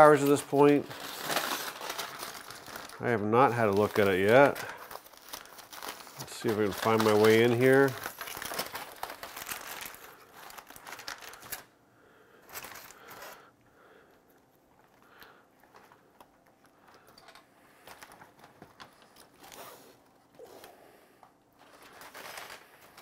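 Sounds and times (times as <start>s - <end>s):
foil crinkling: 0.0s - 11.7s, 12.3s - 20.6s, 21.6s - 23.0s.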